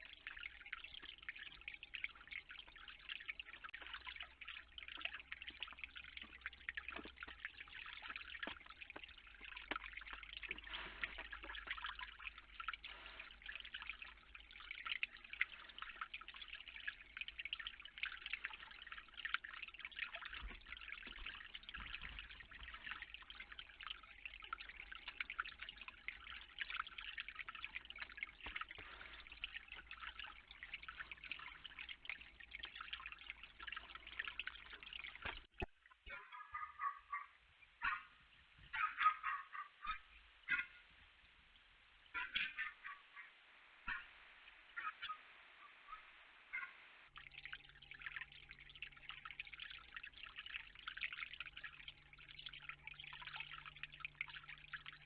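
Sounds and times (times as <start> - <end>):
water dripping and trickling: 0.0 - 55.0.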